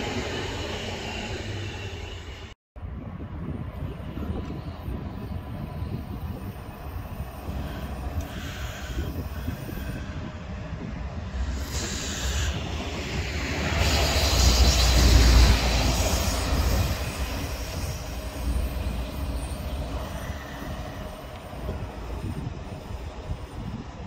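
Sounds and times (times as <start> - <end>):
train passing on tracks: 0.0 - 24.0.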